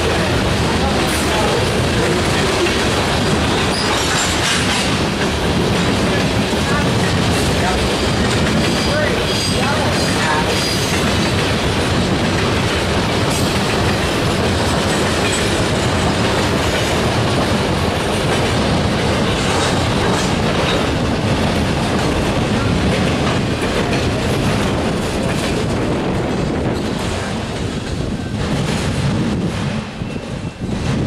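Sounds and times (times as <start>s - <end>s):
wheels clicking over rail joints: 0.0s - 29.0s
train wheels rumbling on rail: 0.0s - 31.0s.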